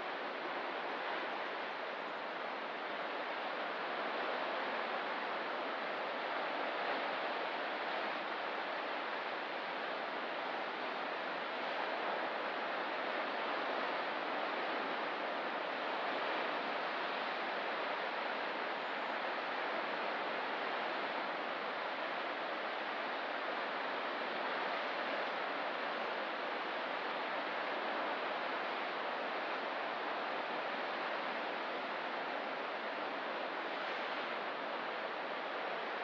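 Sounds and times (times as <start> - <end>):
distant ocean surf: 0.0 - 36.0.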